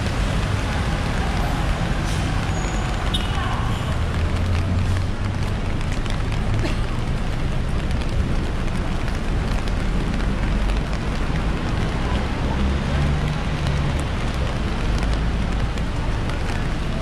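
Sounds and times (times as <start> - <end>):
bus and cars rumbling: 0.0 - 17.0
rain on a street: 0.0 - 17.0.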